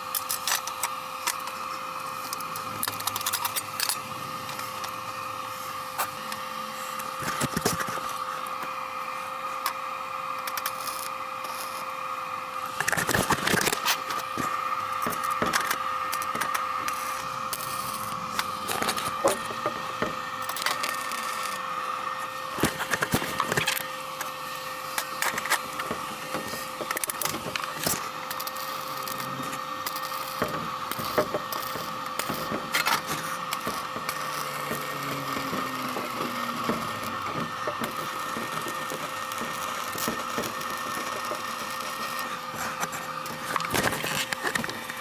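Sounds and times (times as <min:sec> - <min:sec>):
constant hum: 0:00.0 - 0:45.0
welding arc crackling: 0:00.0 - 0:45.0.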